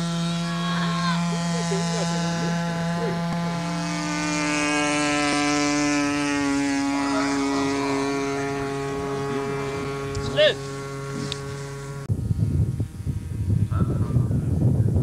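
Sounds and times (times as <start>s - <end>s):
model airplane engine buzzing: 0.0s - 15.0s.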